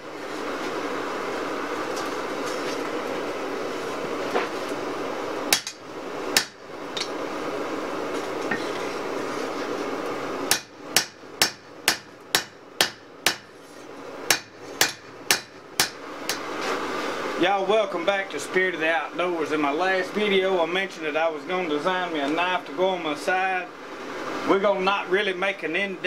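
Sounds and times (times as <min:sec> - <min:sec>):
forge blower air rush: 0:00.0 - 0:26.0.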